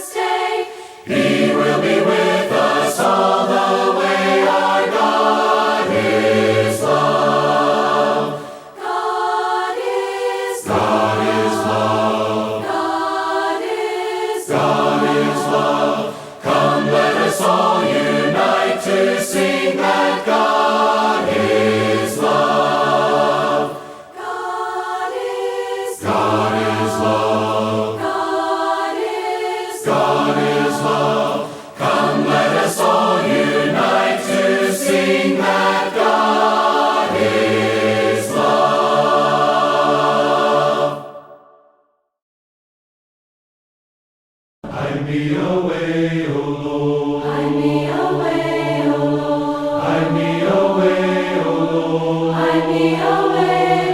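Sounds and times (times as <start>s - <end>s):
choir singing a hymn: 0.0s - 41.6s, 44.6s - 53.9s.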